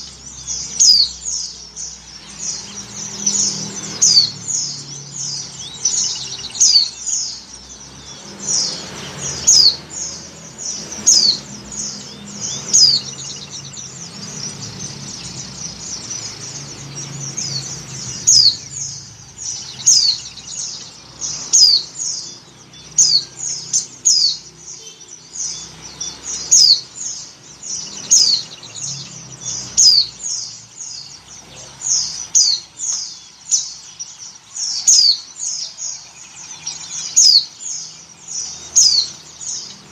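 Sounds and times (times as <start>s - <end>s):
high bird chirps: 0.0s - 39.9s
soft bird twittering: 0.0s - 39.9s.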